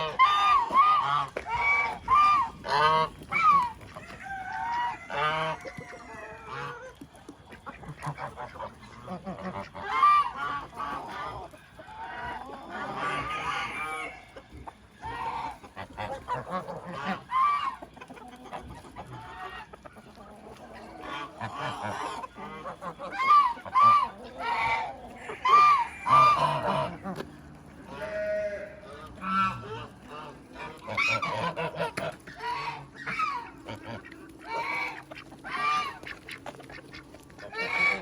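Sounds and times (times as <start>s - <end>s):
chickens clucking: 0.0s - 38.0s
geese honking: 0.0s - 38.0s.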